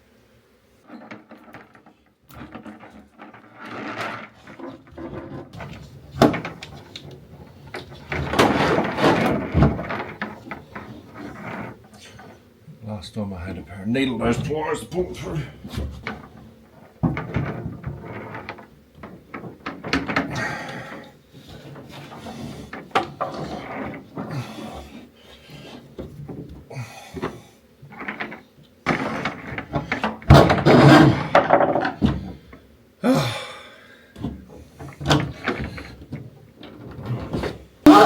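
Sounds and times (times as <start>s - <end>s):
wiring scraping through a hole: 0.8s - 12.6s, 13.9s - 26.1s, 27.2s - 32.6s, 36.7s - 38.0s.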